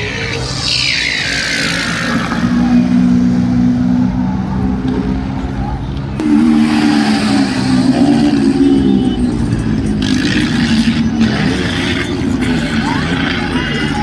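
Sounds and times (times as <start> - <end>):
tractor engine revving: 0.0 - 14.0.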